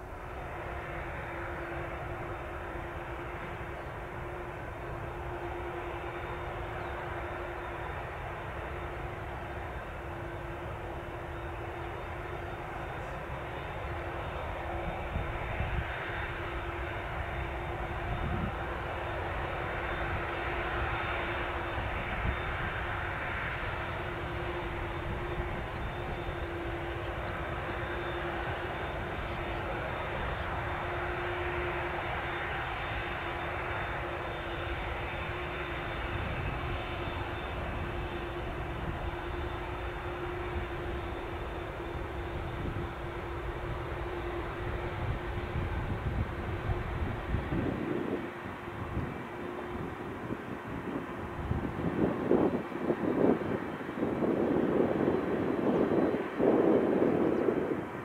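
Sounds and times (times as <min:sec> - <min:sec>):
droning tone: 0:00.0 - 0:58.0
jet engines hissing: 0:00.0 - 0:58.0.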